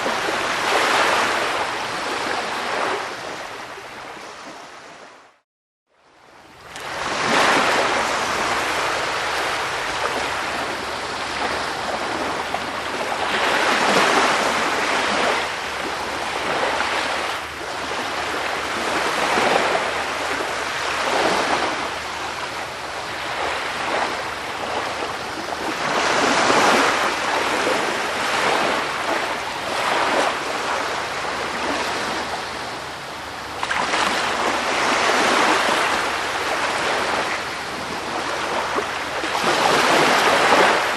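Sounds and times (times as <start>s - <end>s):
sea waves washing onto shore: 6.6s - 40.9s.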